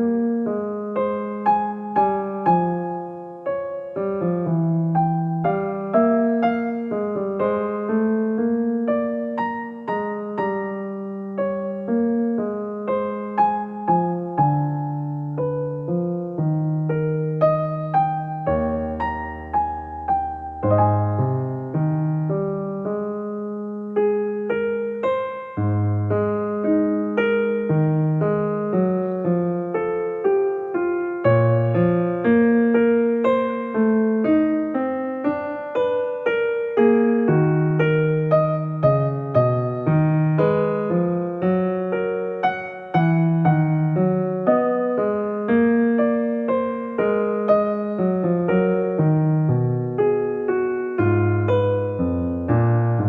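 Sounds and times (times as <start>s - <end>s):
electric piano music: 0.0s - 53.0s.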